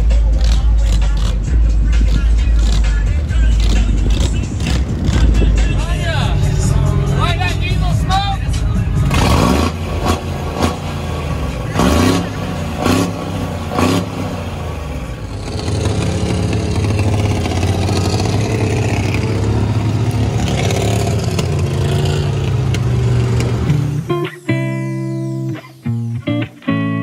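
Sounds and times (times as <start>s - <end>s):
truck engine revving: 0.0s - 24.5s.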